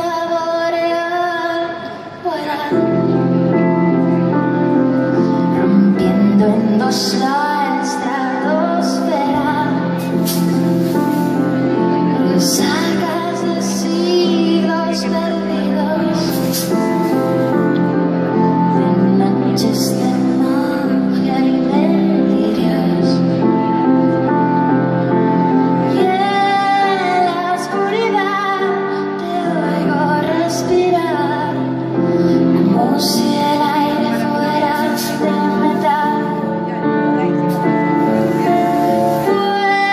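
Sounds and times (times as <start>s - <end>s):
woman singing: 0.0s - 4.5s, 5.1s - 10.5s, 11.3s - 24.1s, 25.2s - 39.9s
keyboard sustained chords: 0.0s - 39.9s.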